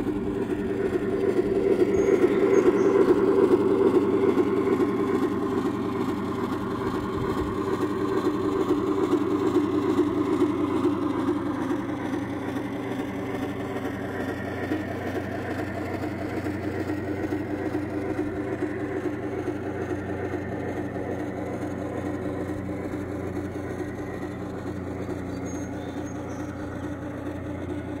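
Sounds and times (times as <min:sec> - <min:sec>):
low hum: 0:00.0 - 0:28.0
model train wheels rumbling on track: 0:00.0 - 0:28.0.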